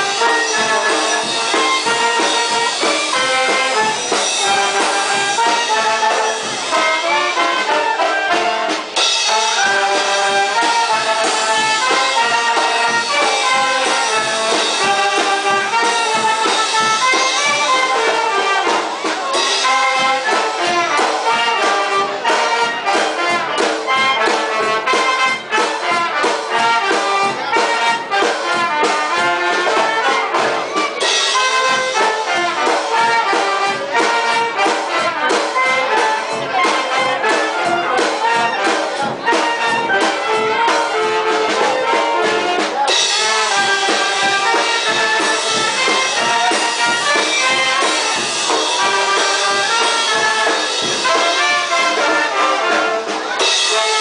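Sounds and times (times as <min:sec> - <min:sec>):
brass band playing dance tune: 0:00.0 - 0:54.0.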